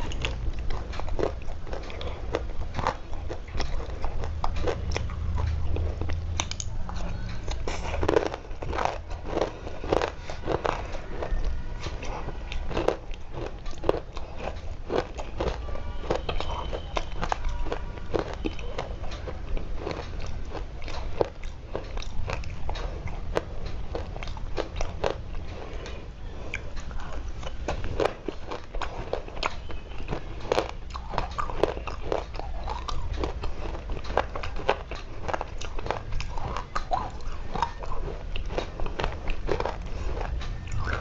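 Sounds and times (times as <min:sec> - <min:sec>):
dry clay being chewed: 0:00.0 - 0:41.0.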